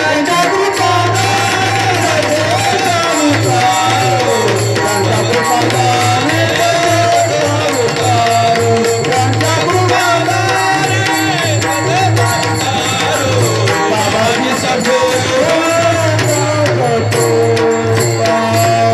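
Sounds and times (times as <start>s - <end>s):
hand drum beat: 0.0s - 18.9s
person singing: 0.0s - 18.9s.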